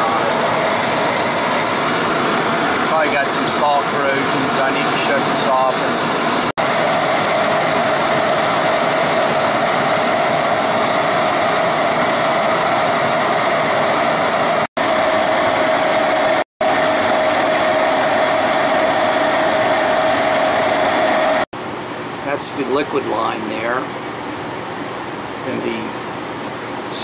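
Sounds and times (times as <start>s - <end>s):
condenser fan air rush: 0.0s - 27.0s
steady hum: 0.0s - 27.0s.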